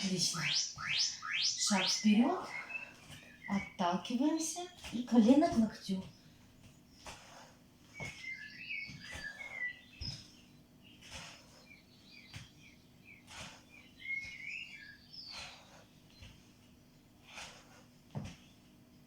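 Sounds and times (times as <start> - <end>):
small bird chirping: 0.0 - 16.4
swishes and light footstep thuds: 0.0 - 19.0.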